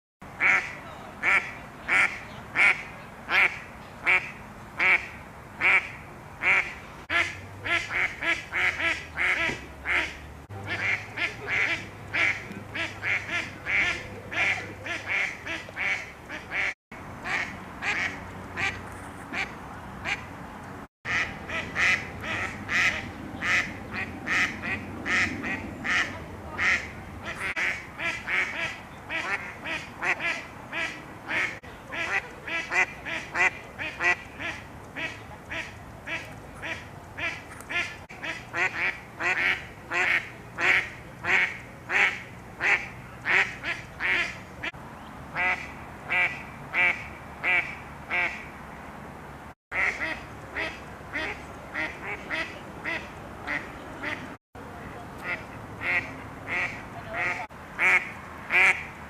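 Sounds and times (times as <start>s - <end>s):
ducks quacking loudly: 0.4s - 20.3s, 21.1s - 44.7s, 45.4s - 48.5s, 49.7s - 54.3s, 55.2s - 58.9s.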